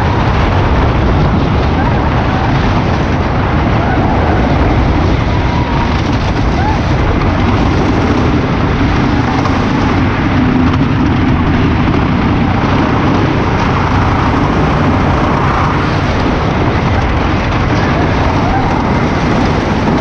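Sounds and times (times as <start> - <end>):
roller coaster wheels rumbling: 0.0 - 20.0.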